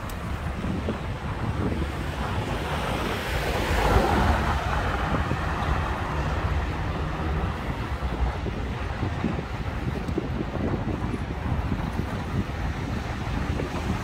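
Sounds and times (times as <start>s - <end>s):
road traffic rushing: 0.0s - 14.0s
wind buffeting microphone: 0.0s - 14.0s.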